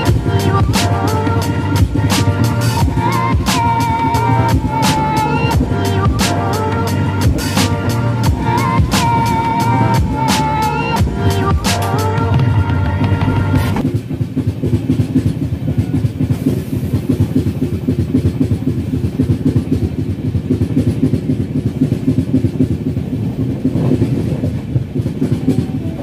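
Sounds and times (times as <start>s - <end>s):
train wheels rumbling and rattling: 0.0s - 26.0s.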